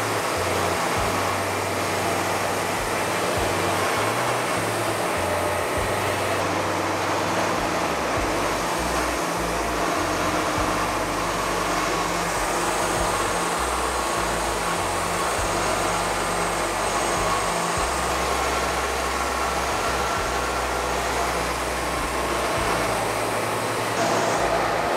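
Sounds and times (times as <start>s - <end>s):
background music with bass: 0.0s - 24.9s
band sawmill cutting log: 0.0s - 24.9s.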